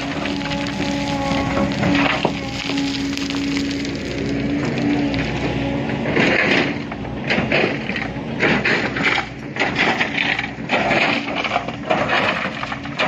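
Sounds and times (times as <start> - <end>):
clattering knocks and scrapes: 0.0 - 13.0
excavator engine running: 0.0 - 13.0.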